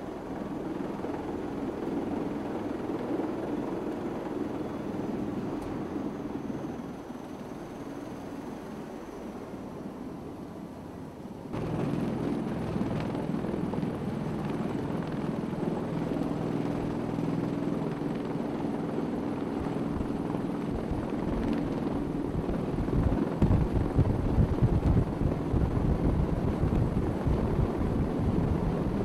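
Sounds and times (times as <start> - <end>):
aircraft rotors droning: 0.0 - 29.0.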